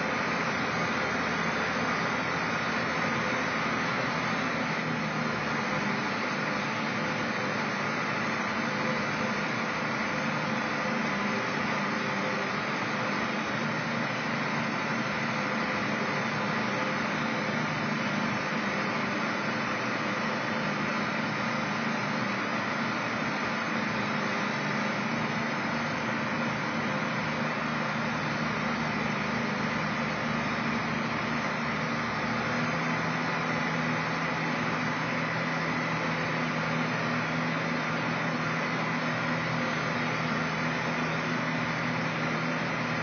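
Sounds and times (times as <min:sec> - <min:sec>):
combine harvester engine hum: 0:00.0 - 0:43.0.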